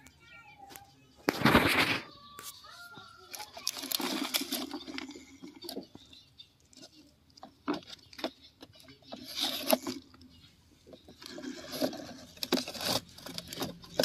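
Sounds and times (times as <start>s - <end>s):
clicks and scrapes on gritty ground: 0.6s - 14.0s
toy truck wheels rolling on dirt: 0.6s - 14.0s.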